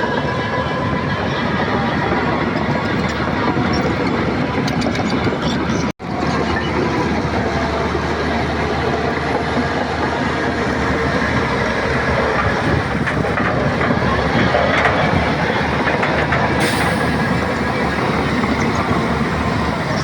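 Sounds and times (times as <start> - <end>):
bulldozer diesel engine running: 0.0 - 20.0
steel tracks clattering: 0.0 - 20.0.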